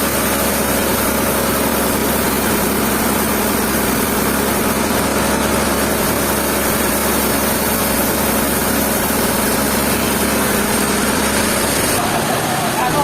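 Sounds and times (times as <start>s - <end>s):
sawmill machinery running: 0.0s - 13.0s.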